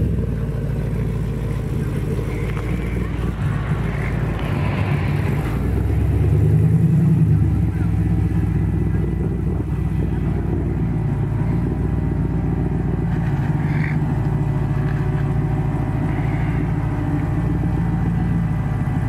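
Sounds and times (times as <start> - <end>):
buggy engine running: 0.0 - 19.0.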